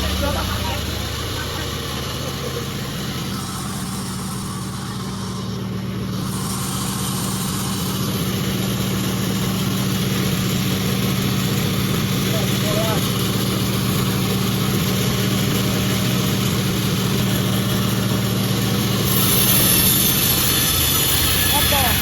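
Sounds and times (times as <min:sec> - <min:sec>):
sawmill machinery humming: 0:00.0 - 0:22.0.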